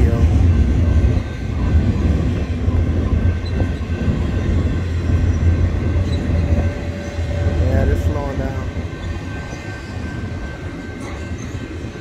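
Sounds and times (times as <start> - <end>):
freight train wheels rumbling on track: 0.0 - 12.0.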